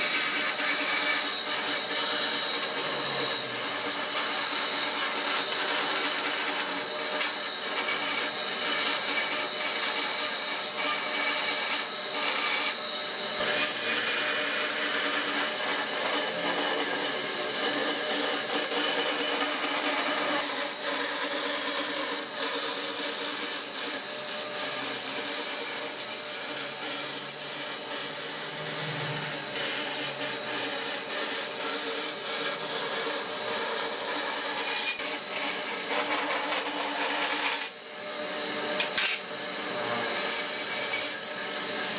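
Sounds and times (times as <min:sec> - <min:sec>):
bandsaw cutting wood: 0:00.0 - 0:41.9.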